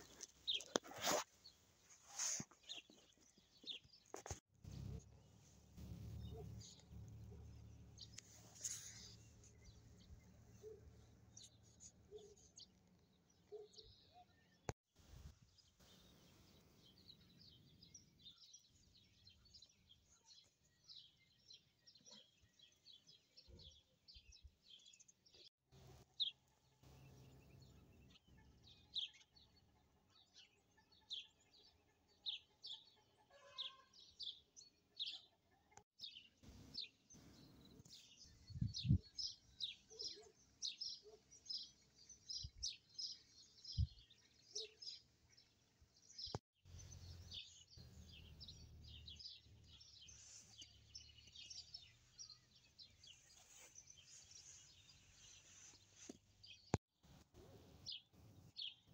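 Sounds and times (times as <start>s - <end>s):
faint birds chirping: 0.0s - 58.9s.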